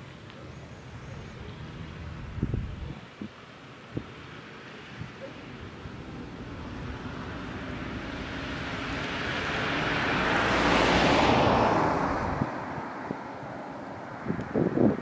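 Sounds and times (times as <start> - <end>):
vehicle passing by: 0.0 - 3.1, 3.9 - 15.0.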